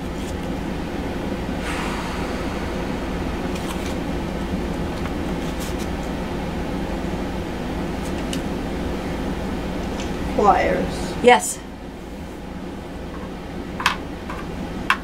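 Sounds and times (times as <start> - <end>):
room hum and hiss: 1.5 - 15.0.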